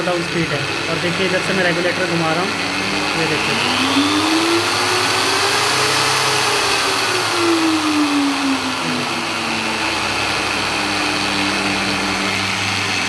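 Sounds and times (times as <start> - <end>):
angle grinder motor whining: 0.0 - 13.0.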